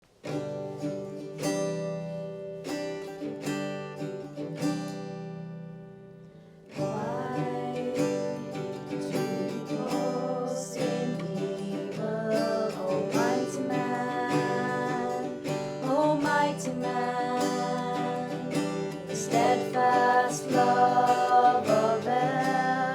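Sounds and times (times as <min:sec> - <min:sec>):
acoustic guitar playing: 0:00.1 - 0:22.9.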